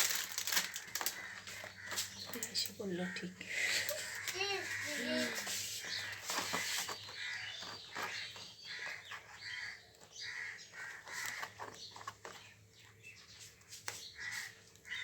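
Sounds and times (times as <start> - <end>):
crow cawing: 0.2 - 11.7, 14.2 - 15.0.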